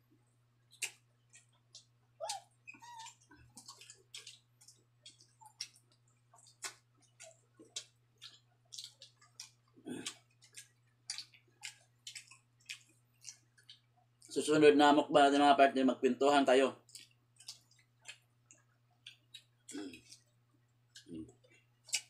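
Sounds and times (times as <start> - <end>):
wet chewing sounds: 0.6 - 14.4, 16.8 - 22.0.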